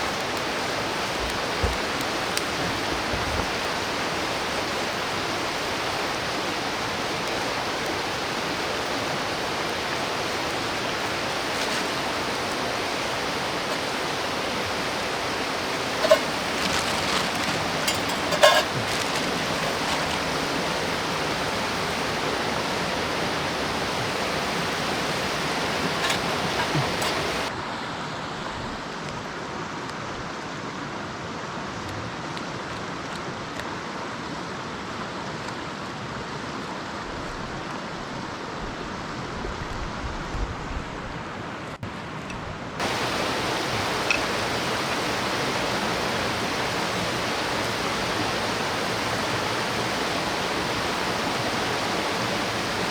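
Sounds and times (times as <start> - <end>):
mountain stream rushing: 0.0 - 40.1, 42.8 - 52.9.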